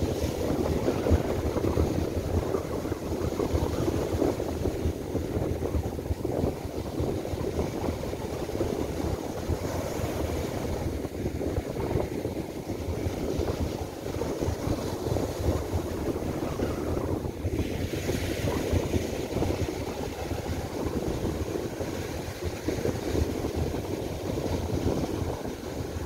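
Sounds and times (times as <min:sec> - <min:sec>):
gusty wind buffeting microphone: 0:00.0 - 0:26.0
surf breaking on beach: 0:00.0 - 0:26.0.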